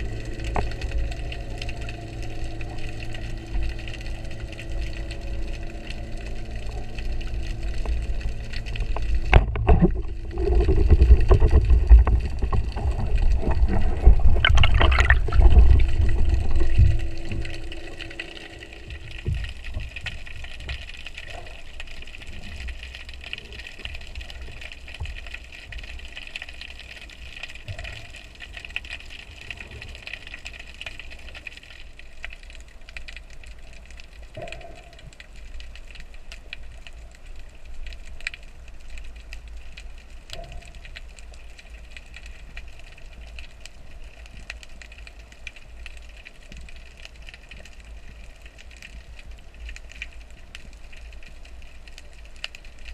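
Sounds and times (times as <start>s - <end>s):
underwater rumble and hiss: 0.0s - 52.9s
faint clicks: 0.1s - 52.9s.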